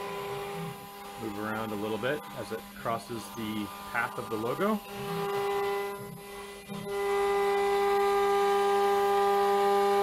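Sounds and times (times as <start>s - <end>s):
router spindle whine: 0.0s - 10.0s.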